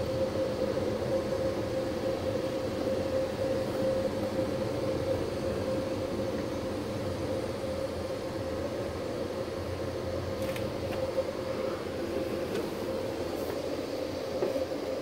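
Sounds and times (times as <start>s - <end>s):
muffled car wash machinery drone: 0.0s - 15.0s.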